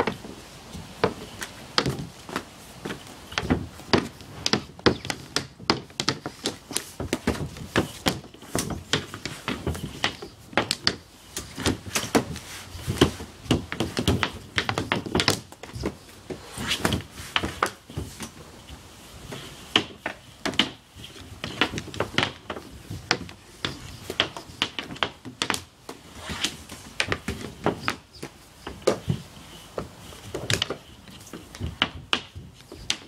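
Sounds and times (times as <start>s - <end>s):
hockey sticks clacking on plastic: 1.0s - 18.4s, 19.3s - 33.0s.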